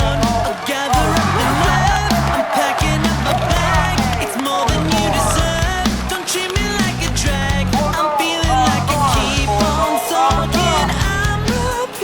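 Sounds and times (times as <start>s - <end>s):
rock song with bass drums guitar: 0.0s - 12.0s.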